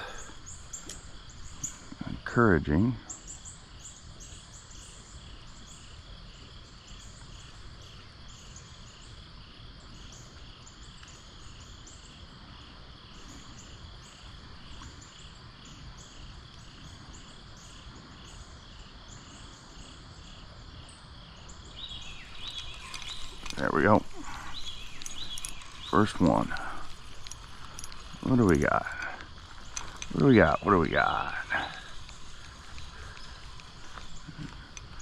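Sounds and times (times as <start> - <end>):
higher insect chirps: 0.0 - 35.0
insects chirping: 0.0 - 35.0.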